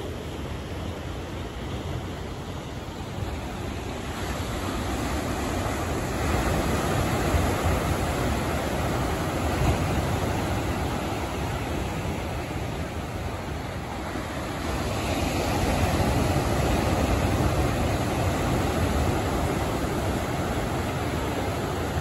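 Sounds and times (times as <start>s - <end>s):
surf breaking on beach: 2.9s - 22.0s.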